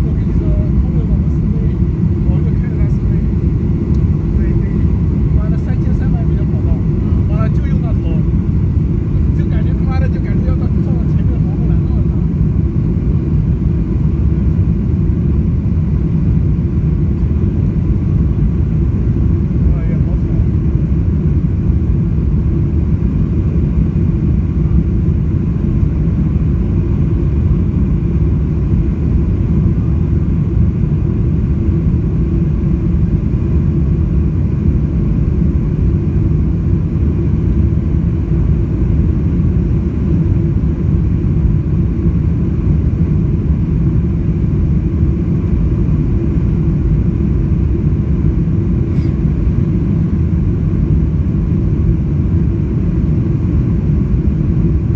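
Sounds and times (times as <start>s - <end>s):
jet engine cabin rumble: 0.0s - 54.9s.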